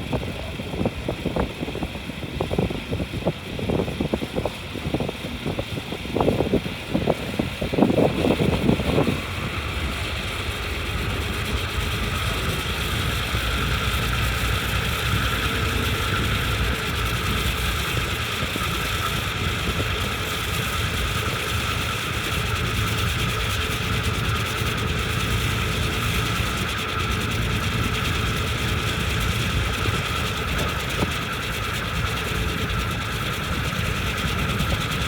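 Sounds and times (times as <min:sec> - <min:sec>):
boat engine rumbling: 0:00.0 - 0:35.0
high engine whine: 0:00.0 - 0:35.0.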